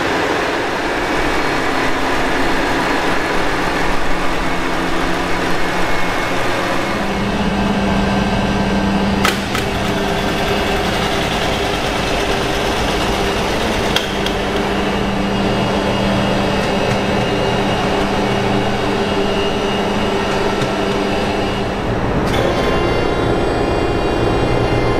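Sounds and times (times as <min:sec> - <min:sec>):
diesel machinery droning: 0:00.0 - 0:24.9.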